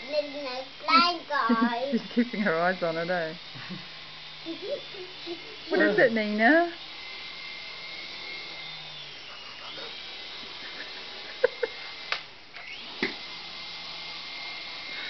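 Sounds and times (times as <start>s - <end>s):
rc helicopter motor whining: 0.0s - 15.0s.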